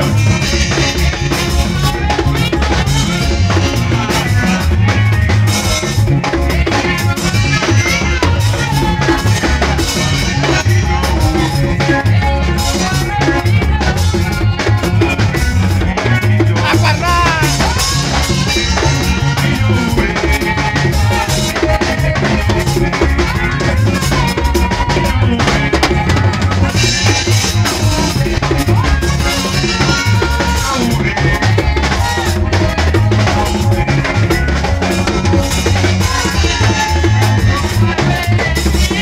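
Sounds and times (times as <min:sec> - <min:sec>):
drum-driven dance music: 0:00.0 - 0:39.0.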